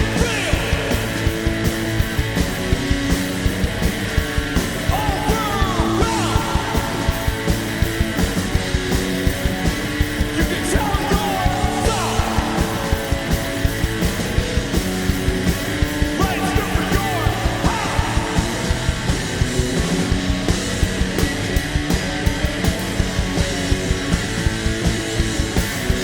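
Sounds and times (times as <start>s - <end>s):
yelled vocals: 0.0s - 22.8s
bass guitar: 0.0s - 26.0s
electric guitar: 0.0s - 26.0s
fast drum beat: 0.0s - 26.0s.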